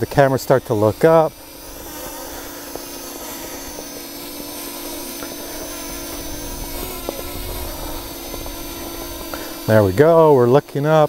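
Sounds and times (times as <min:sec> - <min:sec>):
drone propellers whirring: 0:00.0 - 0:11.0.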